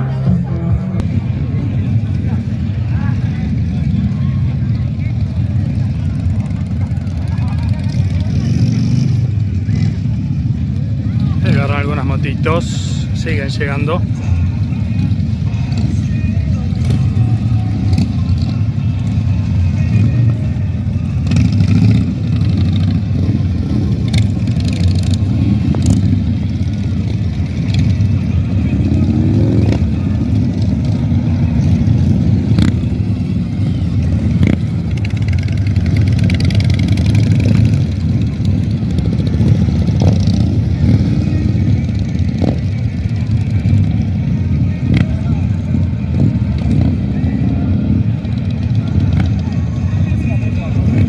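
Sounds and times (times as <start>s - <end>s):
motorcycle engine revving: 0.0s - 51.0s
motorcycle engines rumbling: 0.0s - 51.0s.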